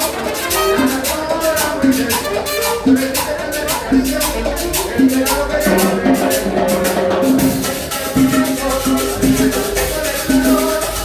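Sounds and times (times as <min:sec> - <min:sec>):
band playing cumbia music: 0:00.0 - 0:11.0.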